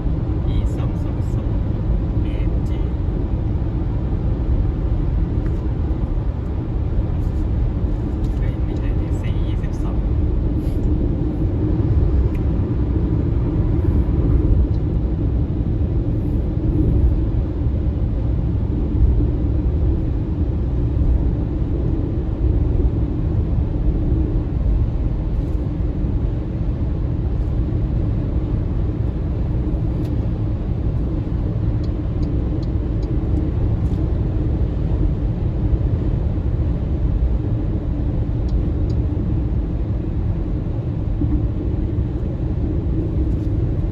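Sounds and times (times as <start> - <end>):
car road and tyre rumble: 0.0 - 43.9.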